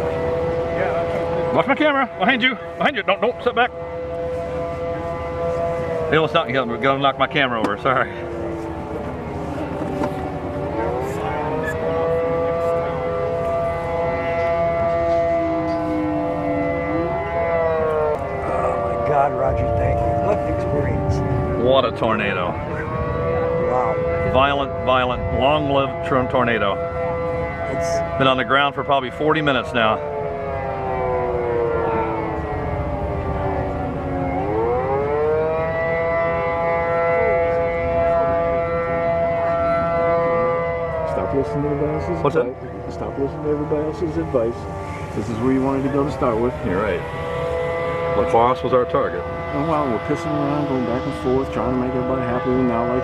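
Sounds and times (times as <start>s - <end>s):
warning sirens wailing: 0.0s - 53.0s.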